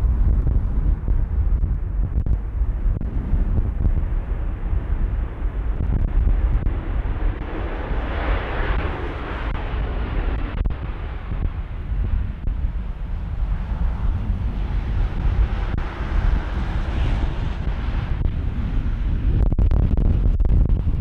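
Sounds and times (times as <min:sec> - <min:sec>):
jet engine rumble: 0:00.0 - 0:21.0
wind buffeting microphone: 0:00.0 - 0:21.0.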